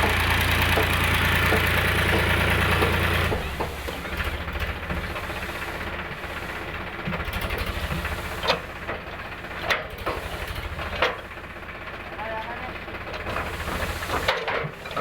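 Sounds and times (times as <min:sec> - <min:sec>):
tractor diesel engine throbbing: 0:00.0 - 0:15.0.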